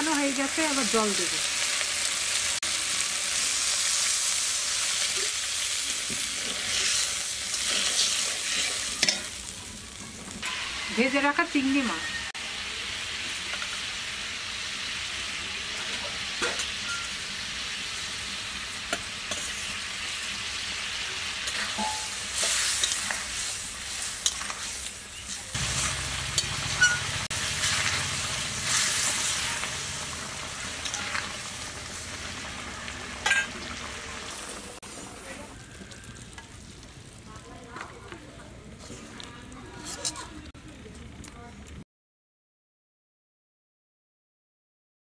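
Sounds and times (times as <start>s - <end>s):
gravy sizzling and bubbling: 0.0s - 41.8s.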